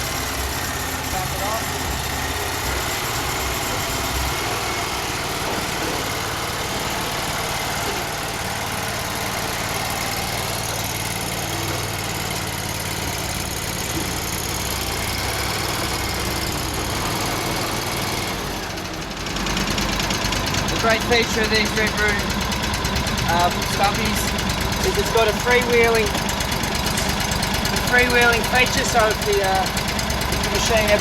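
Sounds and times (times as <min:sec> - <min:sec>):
stump grinder engine running: 0:00.0 - 0:31.0.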